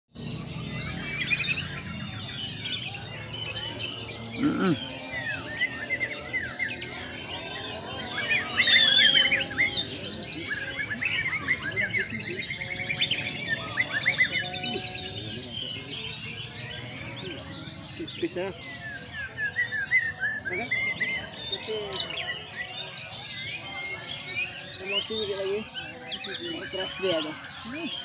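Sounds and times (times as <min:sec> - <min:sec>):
songbirds singing: 0:00.1 - 0:28.0.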